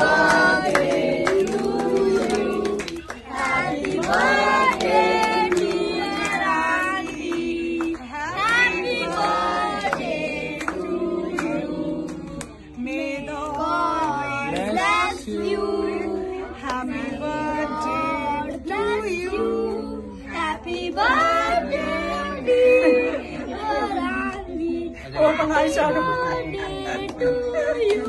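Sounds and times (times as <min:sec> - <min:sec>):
voices singing: 0:00.0 - 0:28.0.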